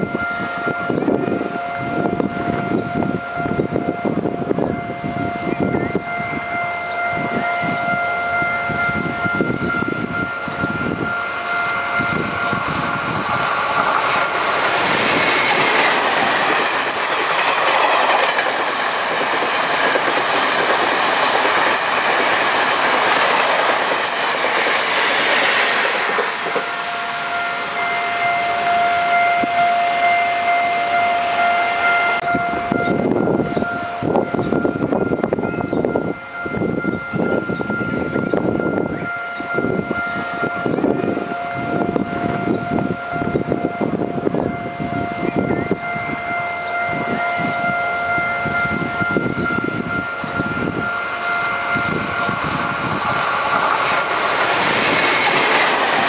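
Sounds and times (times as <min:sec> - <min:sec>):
level crossing warning bell: 0:00.0 - 0:56.0
train rushing past: 0:00.0 - 0:56.0.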